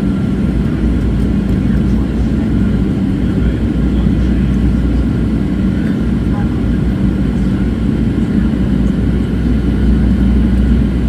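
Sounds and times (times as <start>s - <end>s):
airplane cabin engine roar: 0.0s - 11.0s
low hum: 0.0s - 11.0s.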